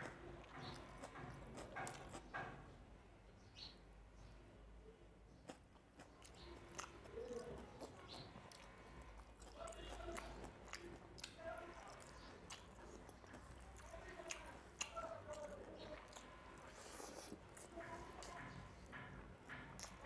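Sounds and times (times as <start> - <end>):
chewing and mouth clicks: 0.0 - 2.5, 5.4 - 20.0
fingers squelching food on plate: 0.0 - 2.5, 5.4 - 20.0.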